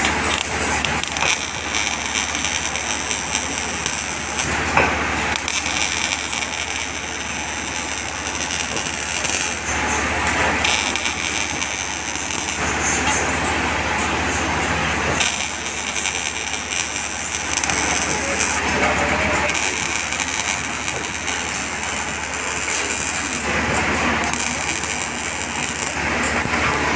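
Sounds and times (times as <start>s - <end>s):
welder arc crackling: 0.0s - 26.9s.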